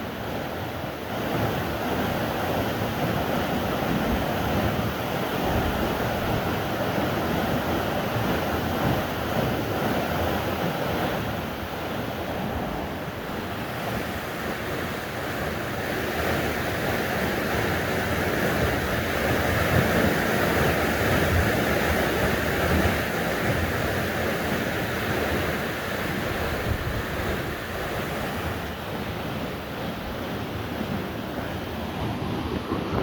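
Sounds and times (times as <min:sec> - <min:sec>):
wind buffeting microphone: 0:01.3 - 0:33.0.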